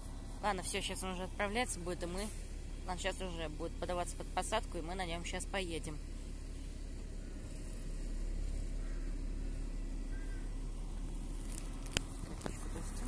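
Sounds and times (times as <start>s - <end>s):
bus engine low rumble: 0.0s - 13.0s.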